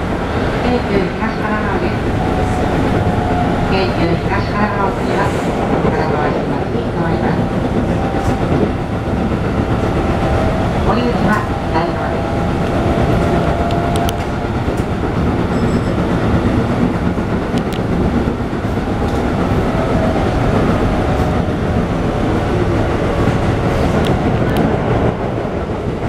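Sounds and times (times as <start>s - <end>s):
train wheels rumbling on rail: 0.0s - 26.0s
rail joint clicks: 1.5s - 26.0s.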